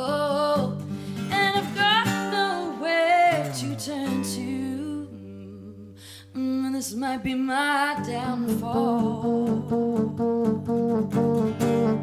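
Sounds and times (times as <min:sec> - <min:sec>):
person singing: 0:00.0 - 0:11.0
acoustic guitar: 0:00.0 - 0:12.0.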